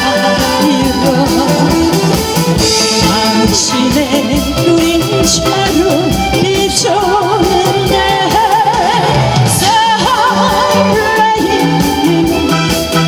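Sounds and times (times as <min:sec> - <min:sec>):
instrumental accompaniment: 0:00.0 - 0:13.0
woman singing with vibrato: 0:00.0 - 0:13.0.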